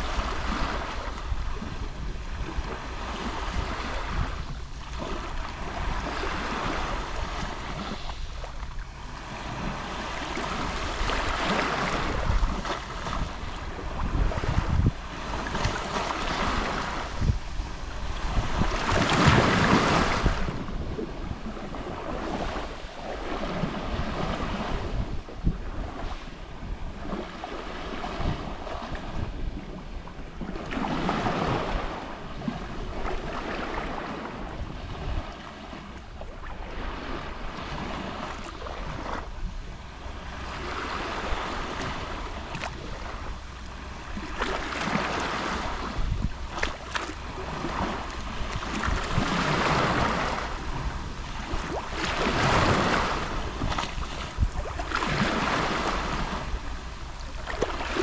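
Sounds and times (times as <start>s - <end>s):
sea waves lapping on shore: 0.0s - 58.0s
wind rumble on microphone: 0.0s - 58.0s.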